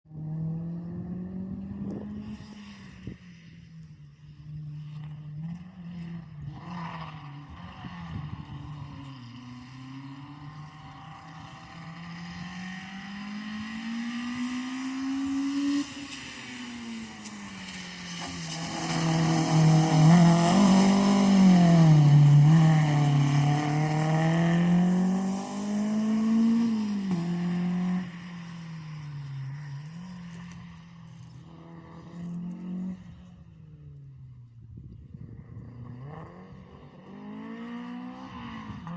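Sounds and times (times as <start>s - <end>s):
rally car engine passing: 0.1s - 33.8s.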